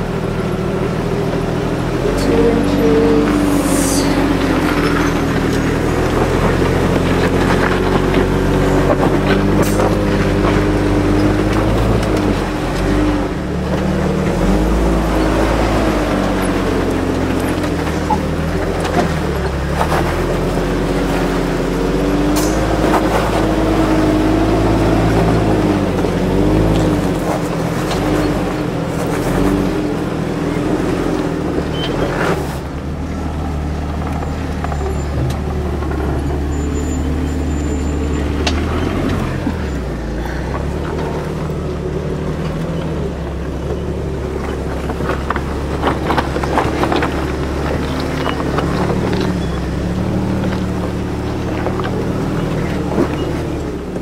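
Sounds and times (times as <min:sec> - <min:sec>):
engine running at low revs: 0:00.0 - 0:54.0.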